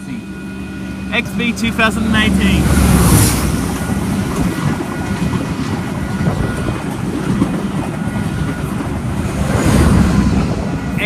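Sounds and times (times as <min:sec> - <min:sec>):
passenger train passing: 0:00.0 - 0:11.0.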